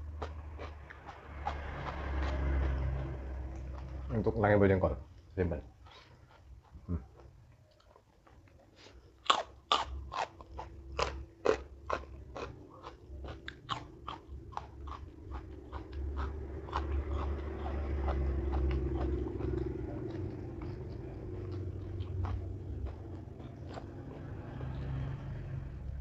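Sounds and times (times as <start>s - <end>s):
crunchy chewing of raw food: 0.0s - 26.0s.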